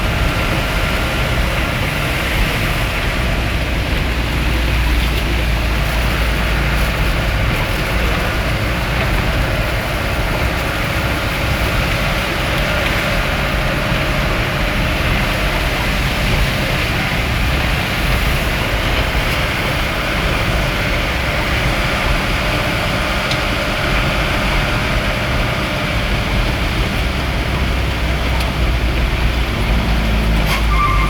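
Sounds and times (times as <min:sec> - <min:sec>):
vehicle engine and tyre rumble: 0:00.0 - 0:31.0.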